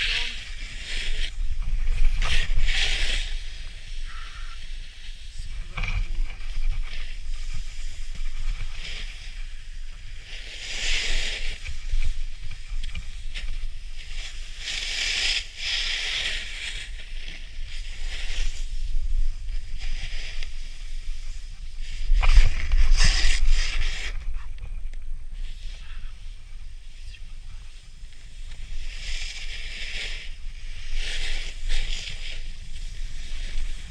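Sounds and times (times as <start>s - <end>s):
snowboard scraping on snow: 0.0s - 33.9s
wind rumble on microphone: 0.0s - 33.9s.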